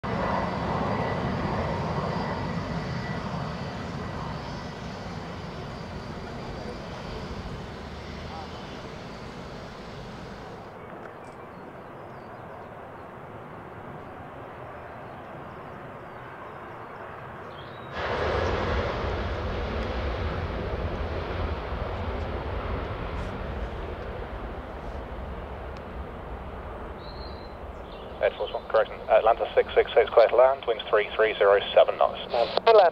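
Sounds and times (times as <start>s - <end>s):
jet engines rumbling with whine: 0.0s - 32.9s.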